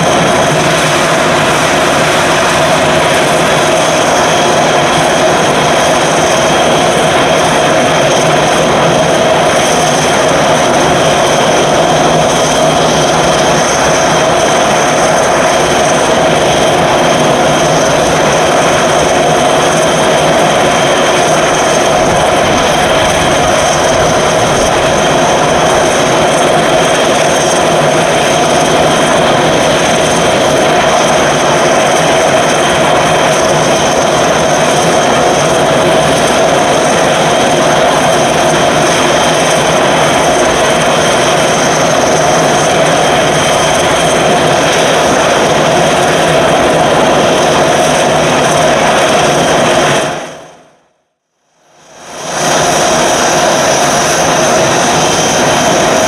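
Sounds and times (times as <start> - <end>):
turboprop engines idling: 0.0 - 50.2, 52.0 - 56.0.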